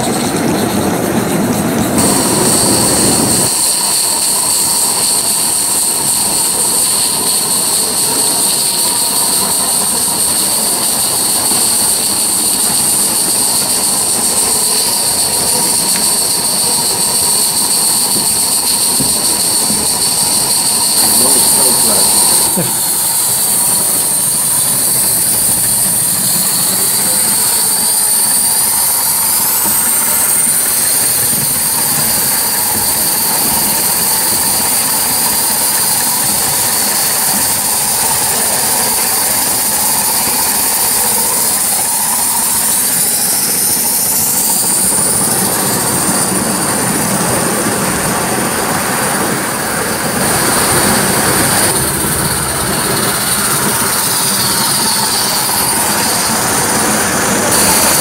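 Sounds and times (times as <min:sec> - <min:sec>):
model train wheels on rails: 0:00.0 - 0:58.0
steam hissing rush: 0:00.0 - 0:58.0.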